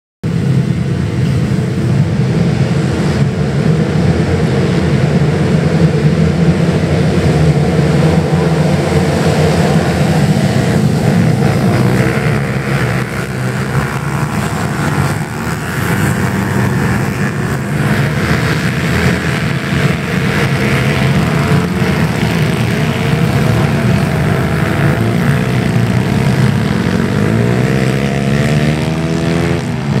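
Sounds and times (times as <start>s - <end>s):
pit bike engines revving: 0.3s - 30.0s.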